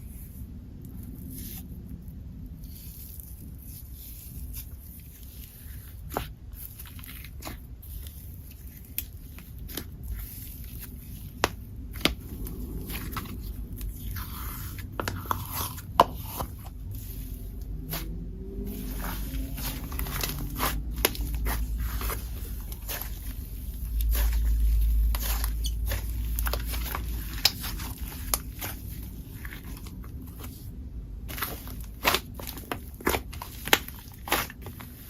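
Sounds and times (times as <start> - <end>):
slime squishing and crackling: 0.1 - 35.0.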